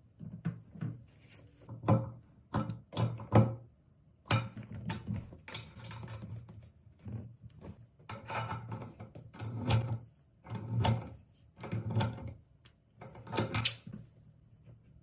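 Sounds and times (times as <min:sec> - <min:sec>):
plastic parts clicking and knocking: 0:01.7 - 0:13.9.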